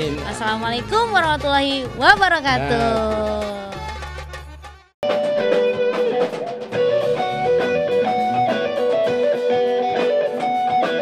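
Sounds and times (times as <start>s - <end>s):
band music with electric guitar: 0.0s - 11.0s.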